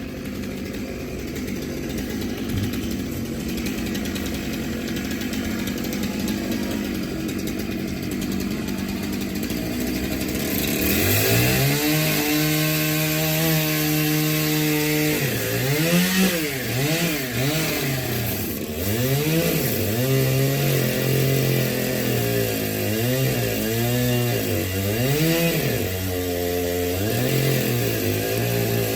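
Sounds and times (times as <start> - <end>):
chainsaw revving and cutting: 0.0 - 28.9.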